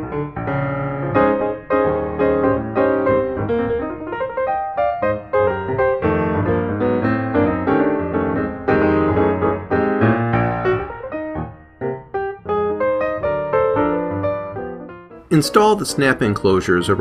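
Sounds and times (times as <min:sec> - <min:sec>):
piano playing runs and chords: 0:00.0 - 0:17.0.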